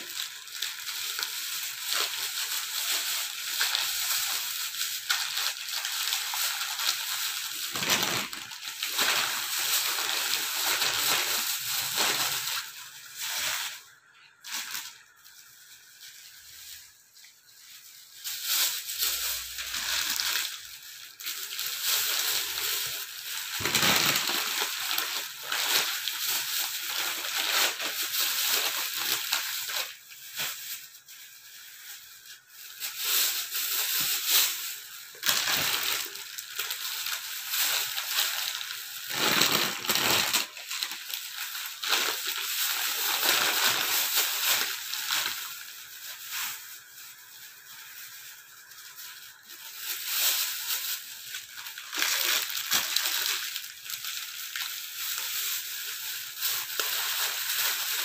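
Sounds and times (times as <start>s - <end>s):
plastic bags rustling and crinkling: 0.0s - 58.0s.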